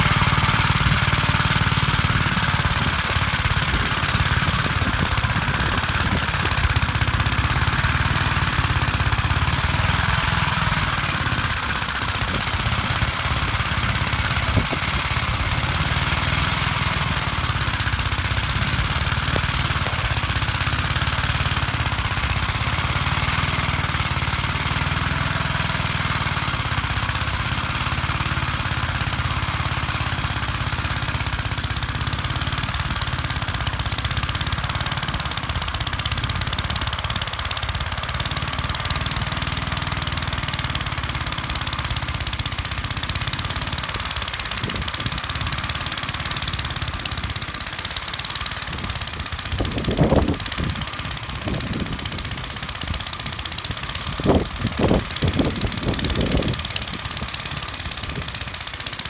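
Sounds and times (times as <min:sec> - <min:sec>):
small engine running under load: 0:00.0 - 0:59.0.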